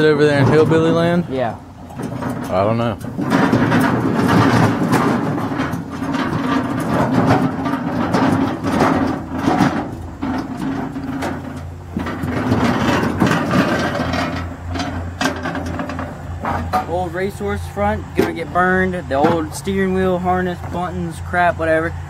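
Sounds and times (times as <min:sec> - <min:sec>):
parts knocking in metal bed: 0:00.0 - 0:21.7
low engine hum: 0:00.0 - 0:22.0
metal cart rattling and clunking: 0:00.0 - 0:22.0.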